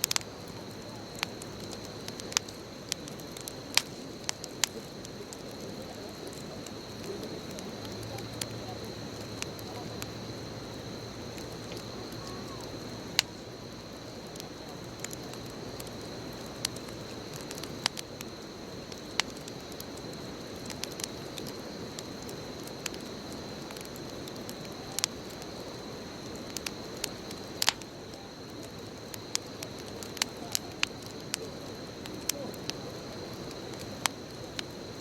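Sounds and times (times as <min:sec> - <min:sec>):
bonfire flame rushing: 0:00.0 - 0:35.0
fire crackles and pops: 0:00.0 - 0:35.0.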